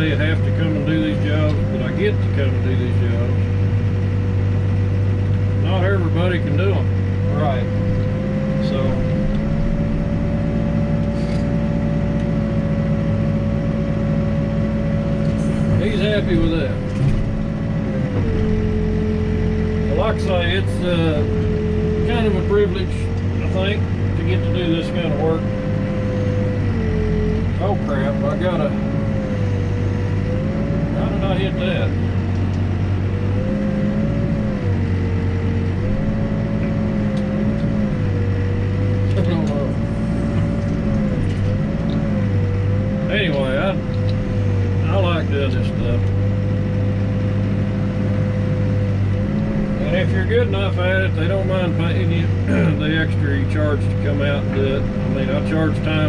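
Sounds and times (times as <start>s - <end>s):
diesel engine running: 0.0s - 56.0s
low hum: 0.0s - 56.0s
steady whine: 0.0s - 56.0s.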